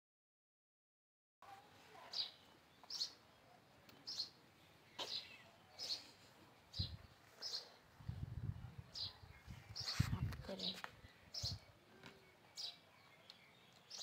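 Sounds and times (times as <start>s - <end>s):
small bird chirping: 2.0s - 14.0s.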